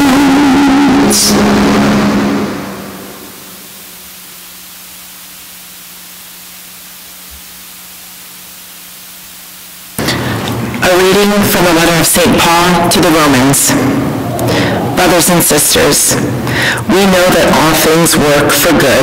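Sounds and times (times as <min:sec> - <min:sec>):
faint low hum: 0:00.0 - 0:19.0
steady hiss: 0:02.0 - 0:19.0.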